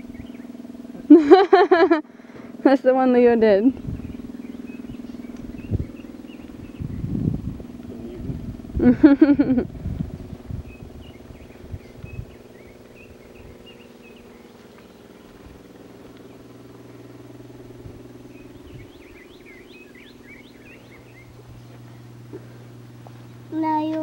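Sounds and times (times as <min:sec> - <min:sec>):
small birds chirping: 0:00.0 - 0:01.0, 0:03.0 - 0:08.8, 0:09.9 - 0:24.0
low engine-like hum: 0:00.0 - 0:24.0.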